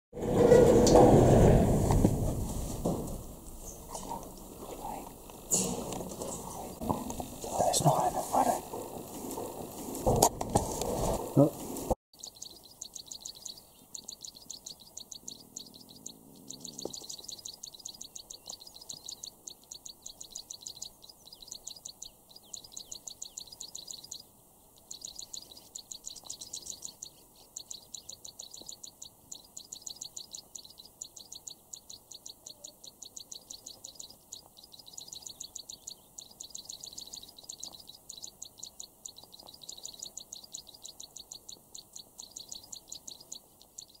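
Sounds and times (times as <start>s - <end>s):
small birds chirping: 3.4s - 10.1s, 11.3s - 44.0s.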